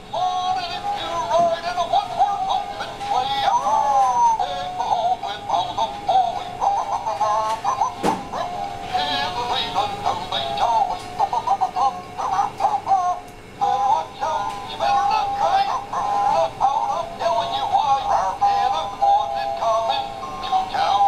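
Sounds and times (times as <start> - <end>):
toy singing in synthetic voice: 0.1 - 21.0.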